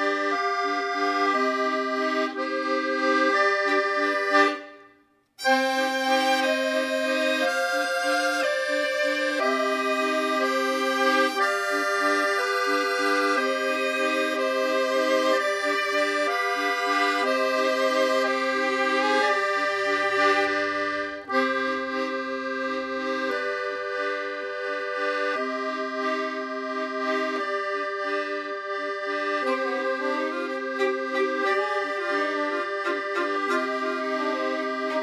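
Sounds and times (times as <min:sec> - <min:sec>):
tango music with bandoneon: 0:00.0 - 0:04.8, 0:05.4 - 0:35.0.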